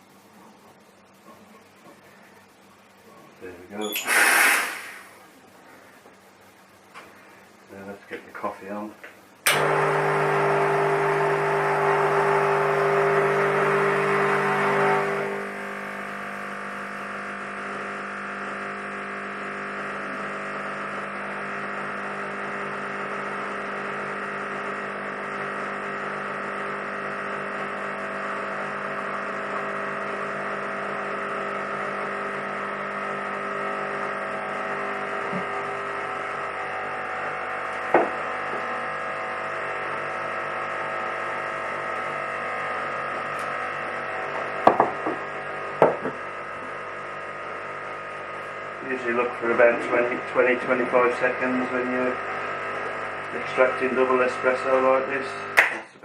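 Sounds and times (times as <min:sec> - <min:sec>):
espresso machine pump humming: 0:09.4 - 0:56.0.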